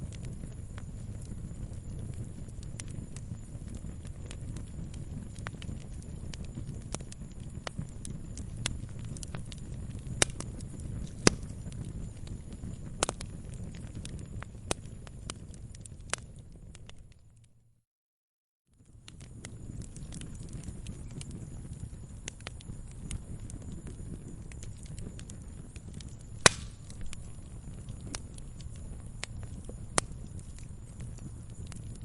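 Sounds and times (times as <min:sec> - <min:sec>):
wood fire crackling: 0:00.0 - 0:17.6, 0:18.8 - 0:32.0.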